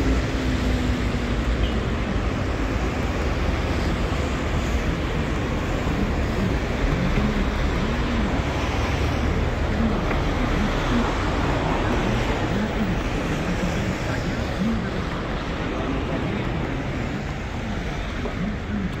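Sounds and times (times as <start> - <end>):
indistinct voices talking: 0.0 - 19.0
traffic going by: 0.0 - 19.0.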